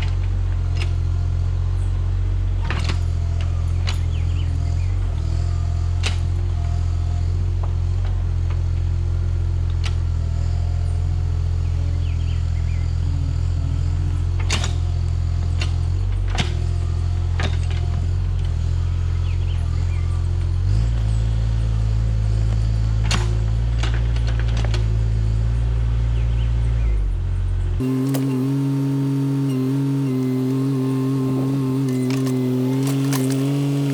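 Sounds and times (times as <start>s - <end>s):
excavator engine running: 0.0s - 26.2s, 27.6s - 33.9s.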